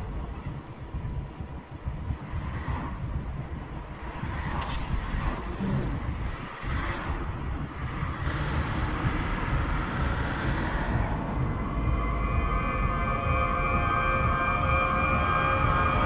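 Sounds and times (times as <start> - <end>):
tyres rumbling on pavement: 0.0 - 13.4
wind buffeting microphone: 0.0 - 13.8.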